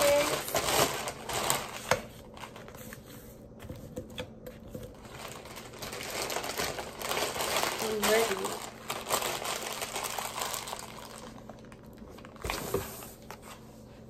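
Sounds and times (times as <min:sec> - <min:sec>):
plastic bag rustling: 0:00.0 - 0:03.5, 0:04.8 - 0:13.9.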